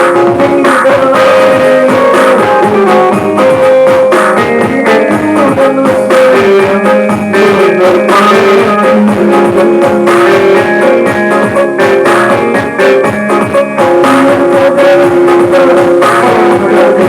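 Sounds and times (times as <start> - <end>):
drum beat: 0.0 - 17.0
guitar melody: 0.0 - 17.0.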